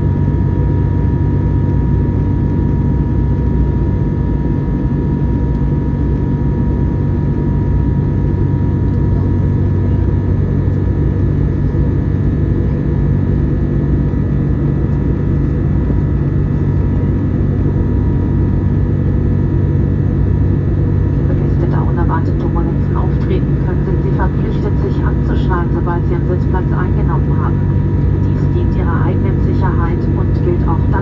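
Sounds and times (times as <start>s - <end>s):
jet engine rumble: 0.0s - 31.0s
thin steady whine: 0.0s - 31.0s.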